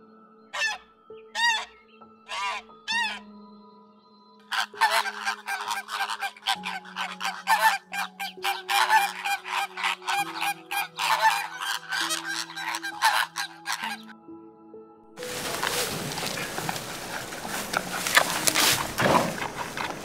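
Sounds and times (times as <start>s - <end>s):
flamingos honking: 0.6s - 0.8s, 1.4s - 1.7s, 2.3s - 3.2s, 4.5s - 14.1s, 15.2s - 20.0s.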